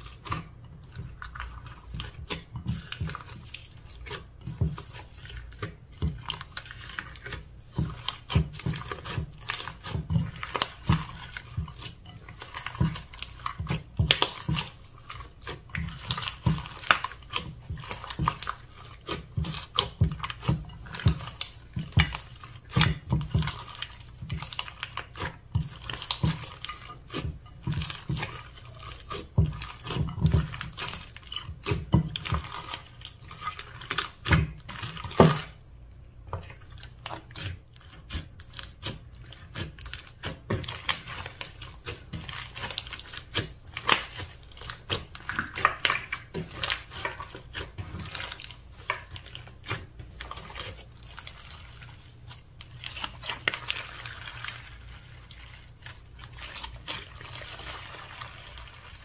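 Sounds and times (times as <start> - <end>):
slime squished by hand: 0.0 - 35.7, 36.4 - 59.0.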